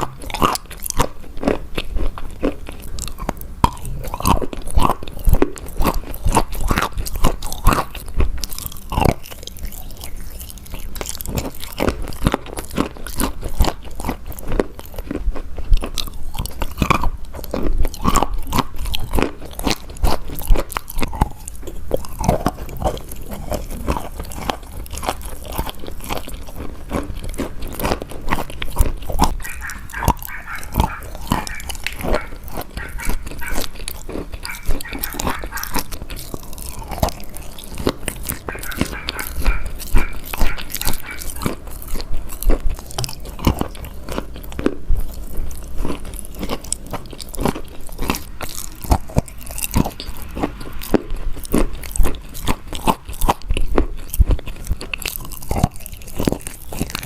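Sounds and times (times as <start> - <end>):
crunching of crisp food: 0.0 - 57.0
soft chewing: 0.0 - 57.0.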